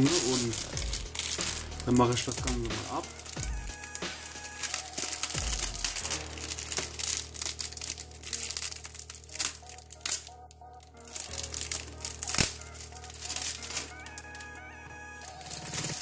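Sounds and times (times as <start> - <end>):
plastic shrink wrap crinkling: 0.0 - 16.0.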